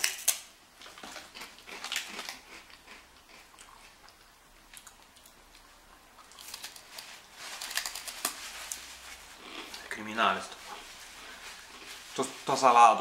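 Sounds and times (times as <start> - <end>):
rice crackers crunching: 0.0 - 12.7.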